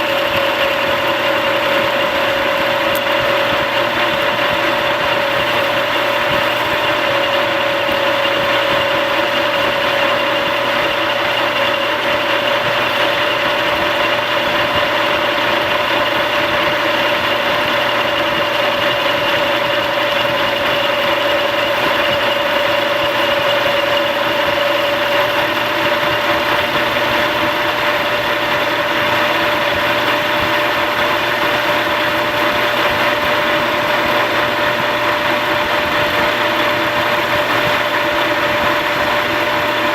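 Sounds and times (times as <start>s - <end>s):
metal lathe humming: 0.0s - 39.9s
steady mid-pitched whine: 0.0s - 39.9s.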